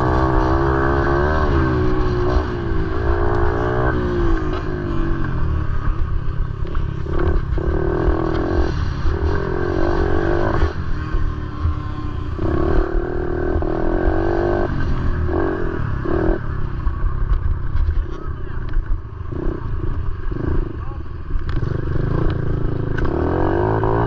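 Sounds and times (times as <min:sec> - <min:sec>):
motorcycle engines rumbling: 0:00.0 - 0:24.0.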